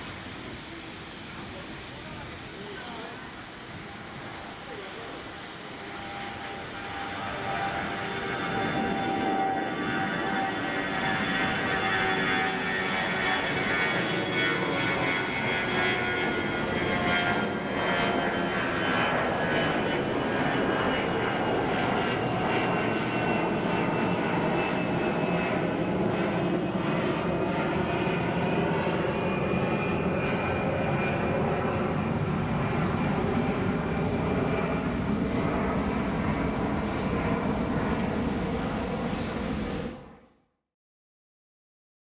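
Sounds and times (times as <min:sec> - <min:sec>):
jet engines whining: 0:00.0 - 0:40.2.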